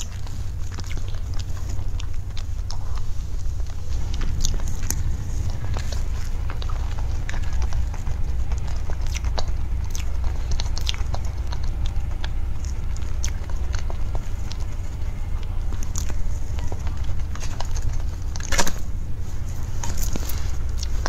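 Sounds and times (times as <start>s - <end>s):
steady low hum: 0.0s - 21.0s
wet chewing: 0.0s - 21.0s.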